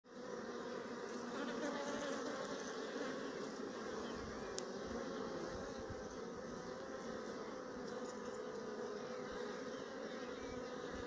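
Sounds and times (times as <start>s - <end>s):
bees buzzing: 0.1s - 11.0s.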